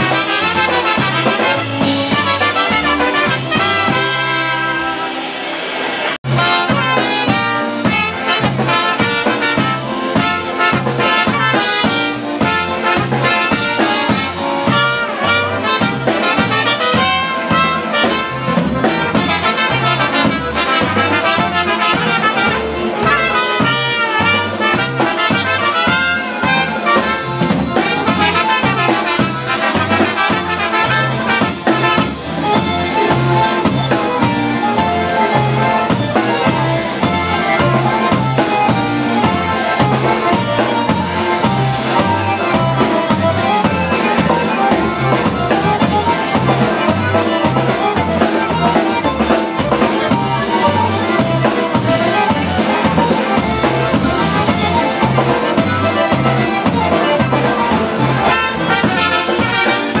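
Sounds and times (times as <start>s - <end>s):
concertina: 0.0s - 60.0s
drum kit beat: 0.0s - 60.0s
piano accordion: 0.0s - 60.0s
trumpets playing melody: 0.0s - 60.0s.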